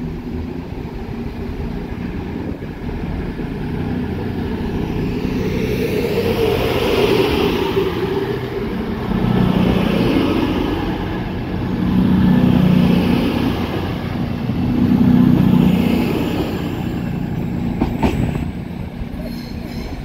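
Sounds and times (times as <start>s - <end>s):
diesel train passing: 0.0s - 20.0s.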